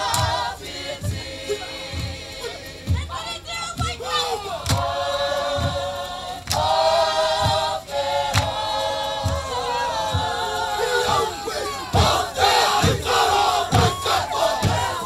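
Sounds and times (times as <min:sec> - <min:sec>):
group singing together: 0:00.0 - 0:15.0
low rhythmic thump: 0:00.0 - 0:15.0.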